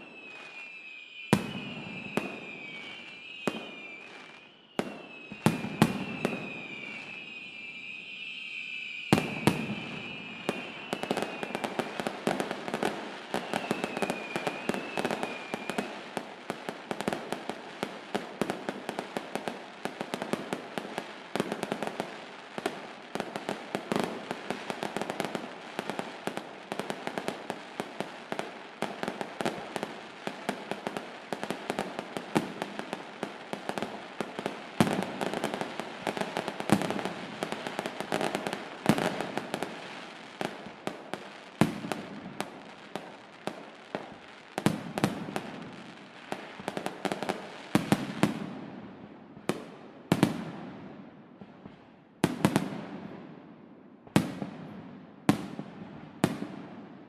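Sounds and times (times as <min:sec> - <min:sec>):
firework whistle: 0:00.0 - 0:48.5
fireworks crackling: 0:00.0 - 0:48.6.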